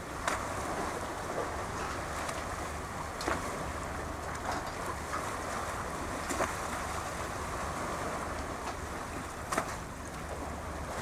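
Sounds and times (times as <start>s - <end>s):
low steady rumble: 0.0s - 11.0s
small waves washing: 0.0s - 11.0s.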